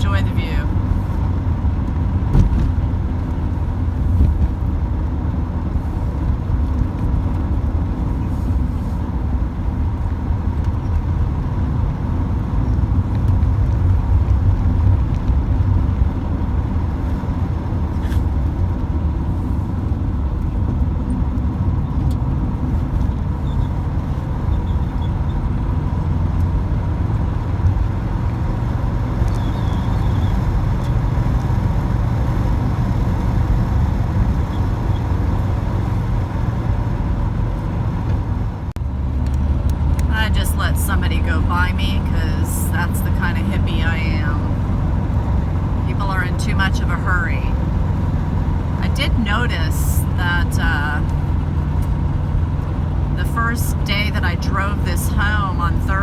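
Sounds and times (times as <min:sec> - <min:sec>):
vehicle engine and road drone: 0:00.0 - 0:56.0.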